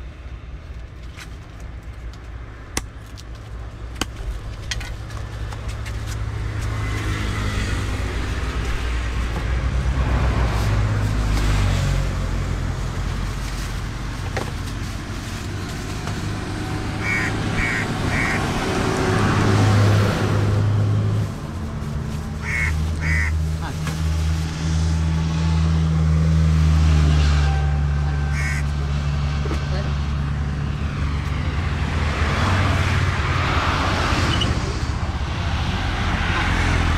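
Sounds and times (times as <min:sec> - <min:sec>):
heavy vehicle engine rumble: 0:00.0 - 0:36.9.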